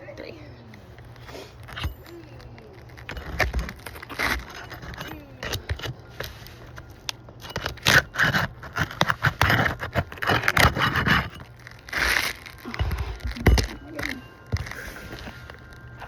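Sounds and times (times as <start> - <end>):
shingles scraping and crackling: 0.8 - 16.0.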